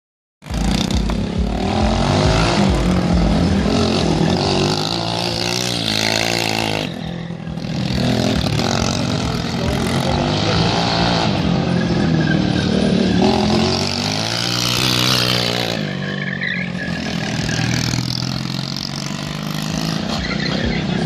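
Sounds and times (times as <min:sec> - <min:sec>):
go-kart engine revving: 0:00.4 - 0:21.0.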